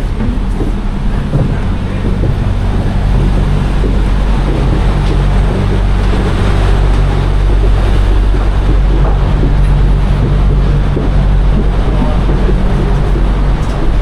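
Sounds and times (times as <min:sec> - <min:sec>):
ferry engines droning: 0:00.0 - 0:14.0
rushing wind and water: 0:00.0 - 0:14.0.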